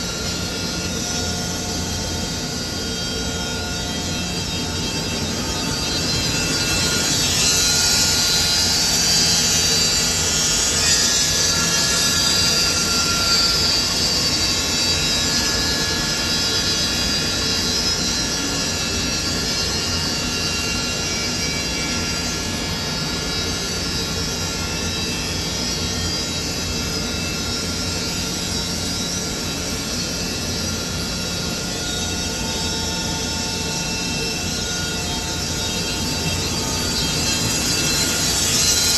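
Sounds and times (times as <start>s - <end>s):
saw cutting wood whine: 0.0s - 38.9s.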